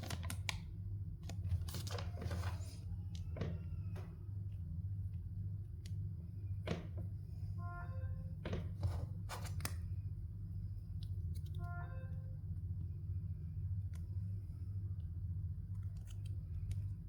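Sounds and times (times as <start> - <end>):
low hum: 0.2 - 17.0.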